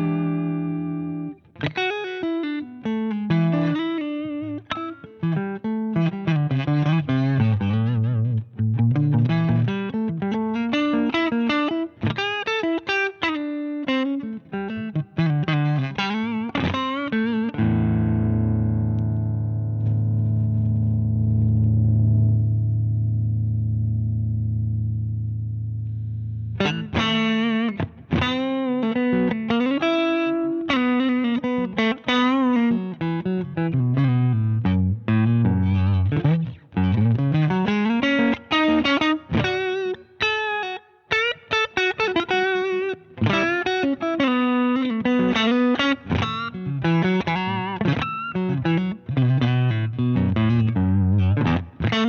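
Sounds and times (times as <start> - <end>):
overdriven electric guitar: 0.0 - 52.0.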